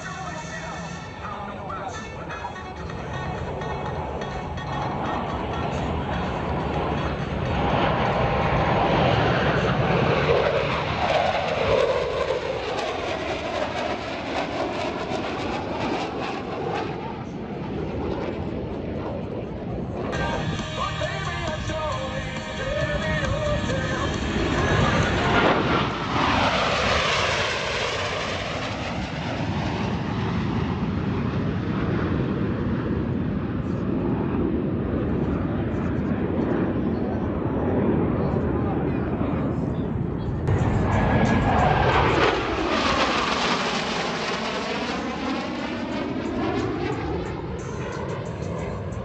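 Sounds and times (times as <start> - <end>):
airplane flying low past: 0.0 - 49.0.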